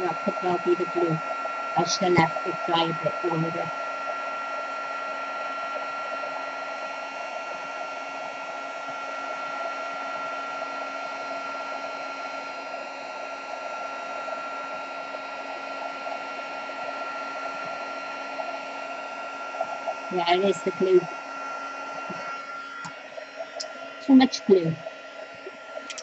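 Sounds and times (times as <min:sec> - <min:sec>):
heat tool blowing air: 0:00.0 - 0:26.0
high fan motor whine: 0:00.0 - 0:26.0.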